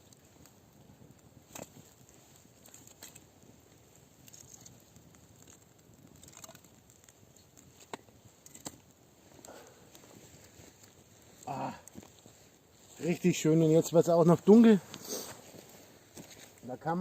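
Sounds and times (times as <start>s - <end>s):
sharp fire pops: 0.0s - 16.8s
campfire crackling: 0.0s - 17.0s.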